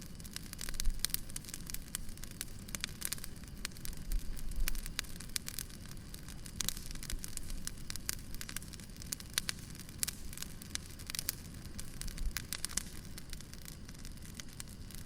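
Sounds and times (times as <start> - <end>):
log fire crackling and popping: 0.0 - 15.0
low rumble of flames: 0.0 - 15.0.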